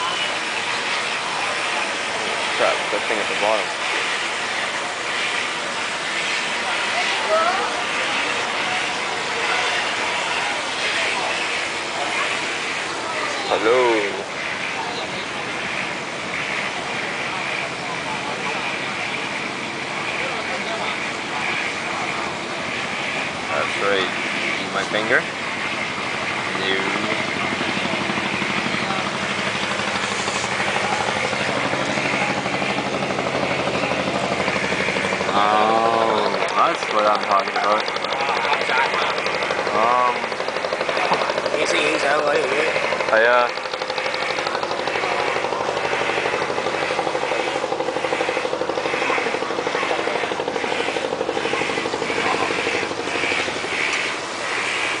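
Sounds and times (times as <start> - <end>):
motor running with fast throb: 0.0 - 55.0
pulsing machine drone: 0.0 - 55.0
rhythmic hiss: 0.0 - 55.0.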